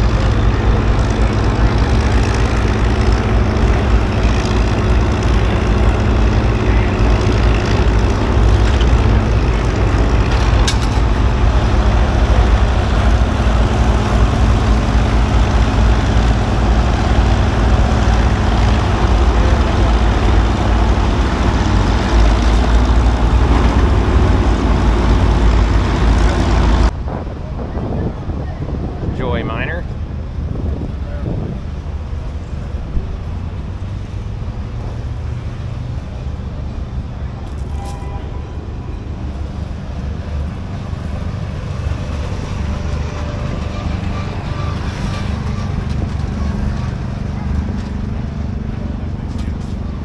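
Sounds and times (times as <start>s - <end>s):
large engine humming: 0.0s - 50.0s.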